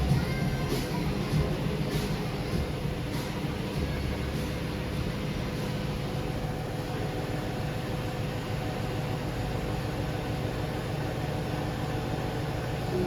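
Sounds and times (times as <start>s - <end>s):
machine humming and whirring: 0.0s - 13.0s.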